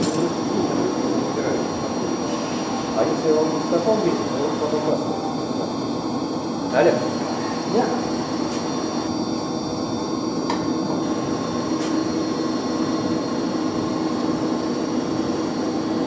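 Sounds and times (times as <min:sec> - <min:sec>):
pumps humming and whirring: 0:00.0 - 0:16.0.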